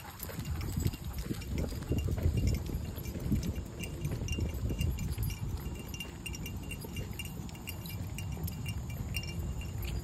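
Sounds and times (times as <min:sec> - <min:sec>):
dog collar tags jingling: 0:00.0 - 0:10.0.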